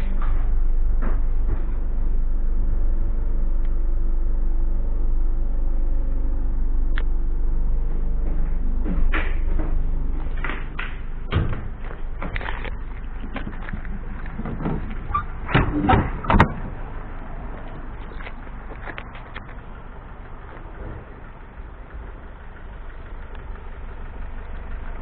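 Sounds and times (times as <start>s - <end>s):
diesel van engine idling: 0.0s - 25.0s.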